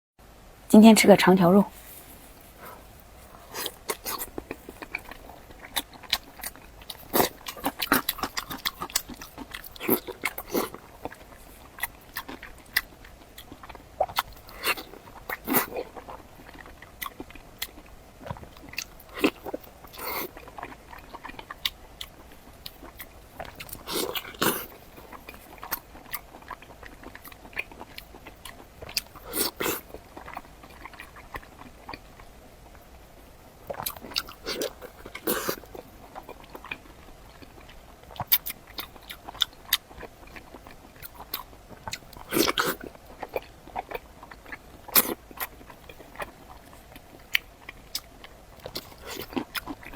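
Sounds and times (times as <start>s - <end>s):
person chewing meat: 2.5s - 49.9s.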